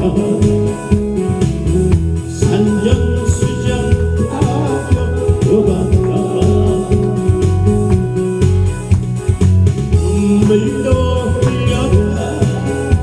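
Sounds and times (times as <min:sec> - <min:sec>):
steady drum beat: 0:00.0 - 0:13.0
sustained melody notes: 0:00.0 - 0:13.0.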